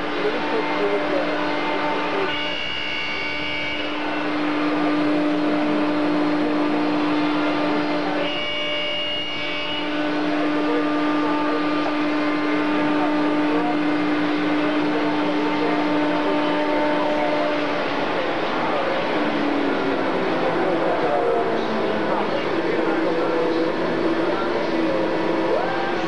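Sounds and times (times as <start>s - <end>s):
high whine: 0.0s - 26.0s
machinery droning: 0.0s - 26.0s.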